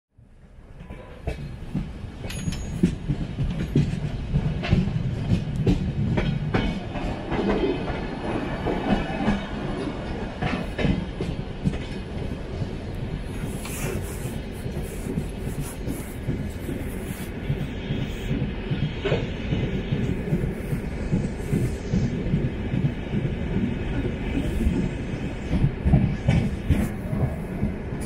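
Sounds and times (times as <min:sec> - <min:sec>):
train rumbling on rails: 0:00.2 - 0:28.0.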